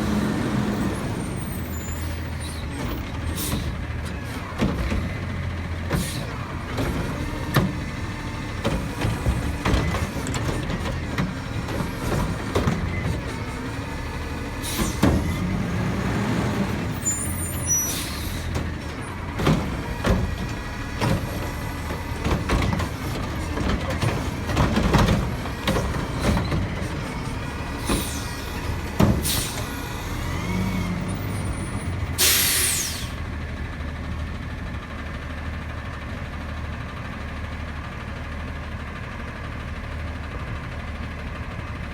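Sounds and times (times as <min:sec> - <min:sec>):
garbage truck engine running: 0:00.0 - 0:41.9.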